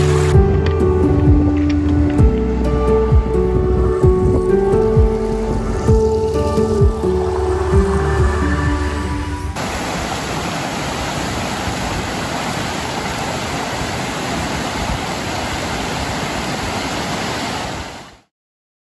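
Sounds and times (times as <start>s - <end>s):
waterfall rushing water: 0.0s - 18.3s.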